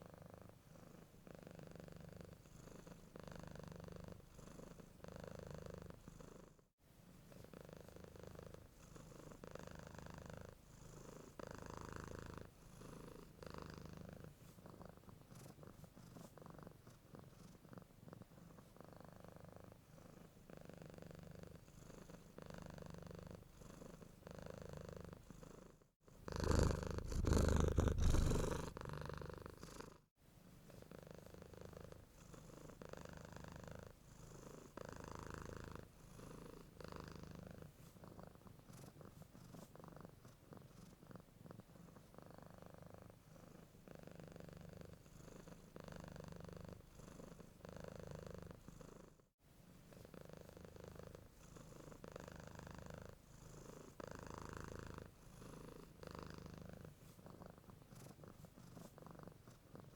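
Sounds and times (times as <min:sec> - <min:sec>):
cat purring: 0:00.0 - 0:06.6, 0:07.2 - 0:49.2, 0:49.8 - 0:59.9.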